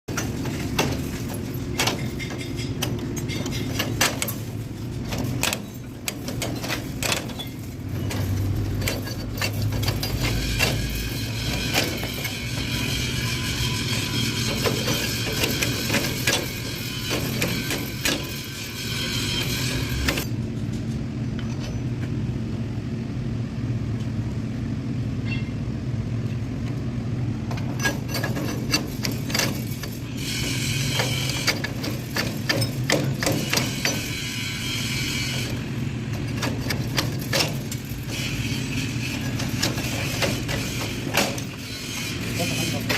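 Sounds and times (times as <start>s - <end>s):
scraping on metal slats: 0.1s - 20.4s, 27.6s - 42.9s
metal clanks and knocks: 0.1s - 22.2s, 27.4s - 34.3s, 35.3s - 42.9s.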